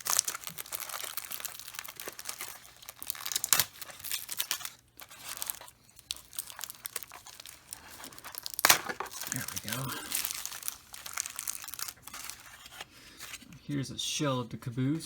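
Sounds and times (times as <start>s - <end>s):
packaging crinkling and rustling: 0.0s - 13.7s.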